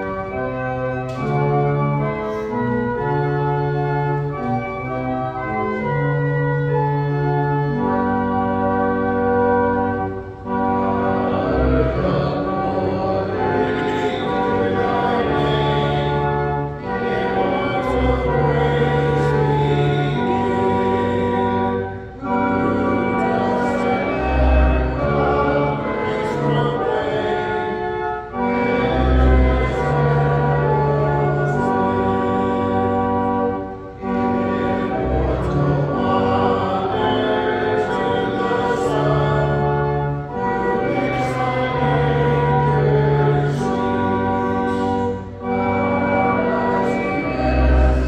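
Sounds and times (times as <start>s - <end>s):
congregation singing a hymn: 0.0s - 48.0s
organ playing: 0.0s - 48.0s.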